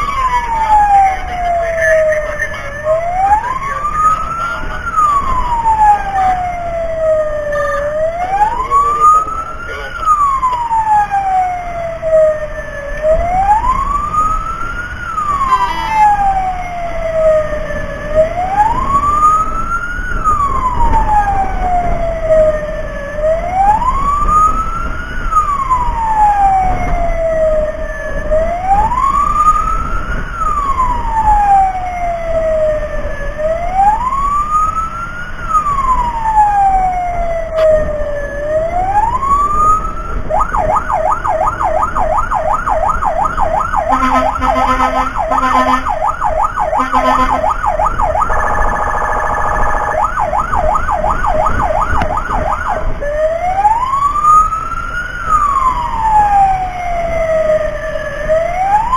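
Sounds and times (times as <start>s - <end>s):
siren wailing: 0.0s - 58.9s.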